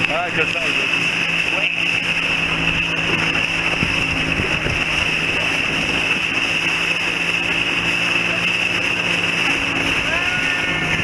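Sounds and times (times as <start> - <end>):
motorboat engine humming: 0.0 - 11.0
wind and water rushing: 0.0 - 11.0.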